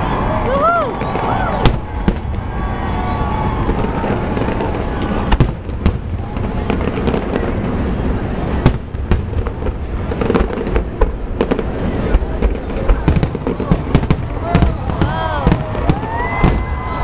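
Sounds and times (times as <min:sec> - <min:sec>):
sharp firework reports: 0:00.0 - 0:17.0.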